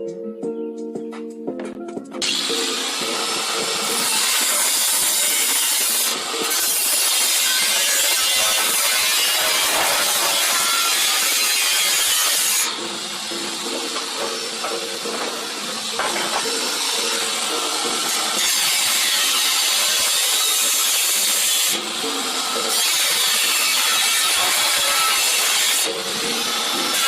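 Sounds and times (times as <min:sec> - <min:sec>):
power tool cutting steel: 0:02.2 - 0:27.0.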